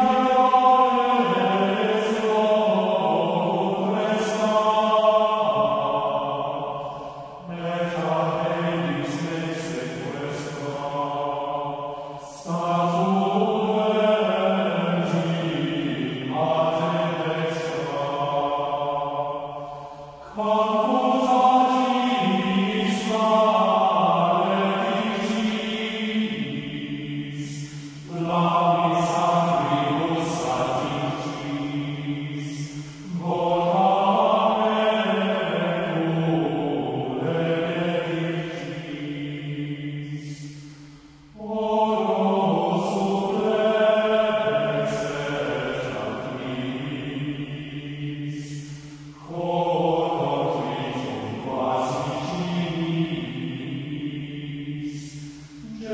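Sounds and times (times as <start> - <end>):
choir singing plainchant: 0.0 - 55.9.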